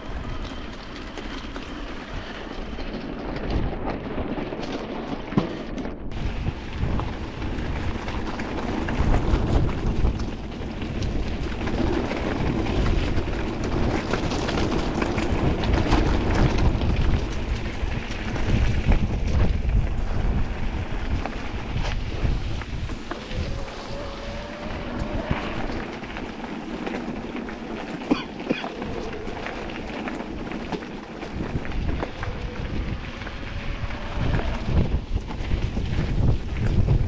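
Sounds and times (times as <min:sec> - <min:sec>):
bike tyres rattling over stones: 0:00.0 - 0:37.0
wind buffeting microphone: 0:00.0 - 0:37.0.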